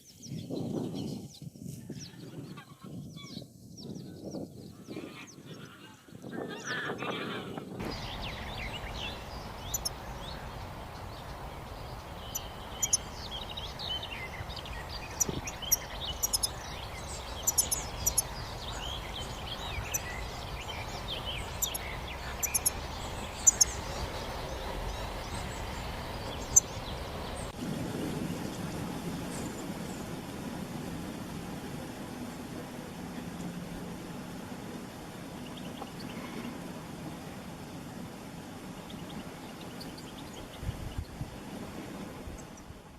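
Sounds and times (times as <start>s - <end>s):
songbirds chirping and twittering: 0.0s - 30.2s, 33.1s - 42.9s
steady background noise: 7.8s - 42.9s.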